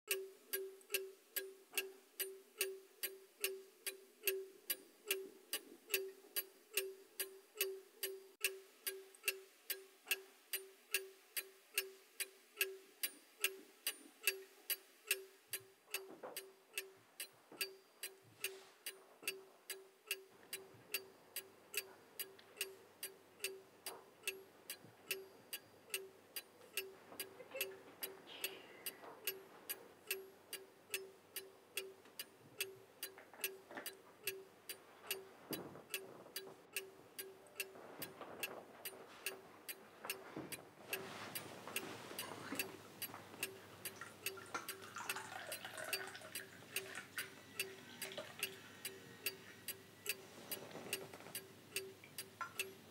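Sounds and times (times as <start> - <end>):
wall clock ticking: 0.1 - 52.9.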